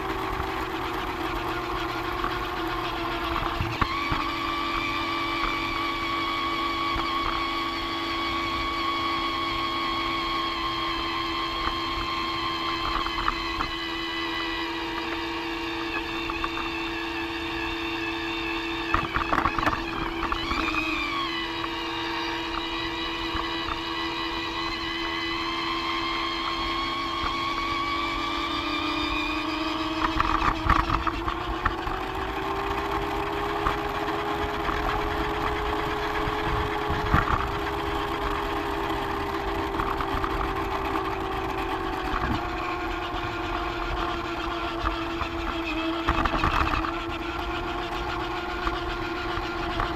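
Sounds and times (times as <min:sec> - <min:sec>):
toy train motor whining: 0:00.0 - 0:49.9.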